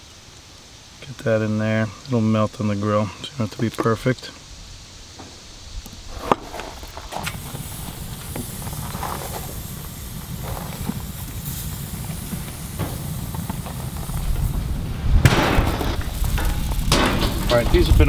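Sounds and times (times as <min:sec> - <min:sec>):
hot grill hissing: 0:00.0 - 0:18.0.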